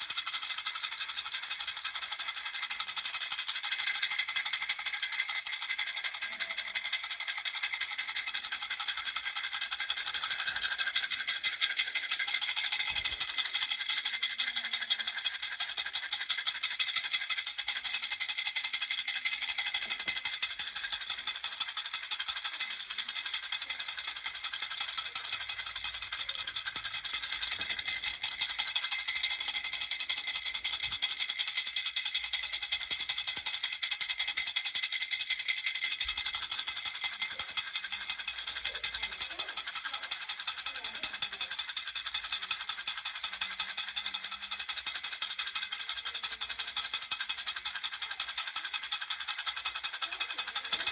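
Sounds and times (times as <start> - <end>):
baby rattle shaking: 0.0 - 50.9.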